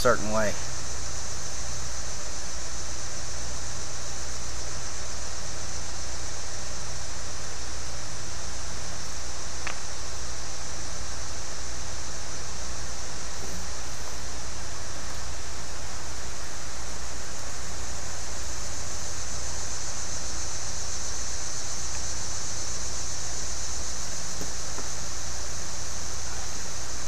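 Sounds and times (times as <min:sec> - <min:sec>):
steady hiss with low hum: 0:00.0 - 0:27.0.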